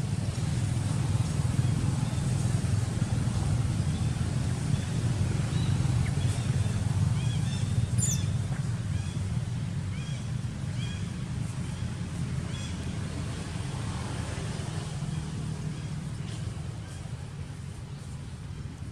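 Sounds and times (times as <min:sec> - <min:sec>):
low outdoor rumble: 0:00.0 - 0:18.9.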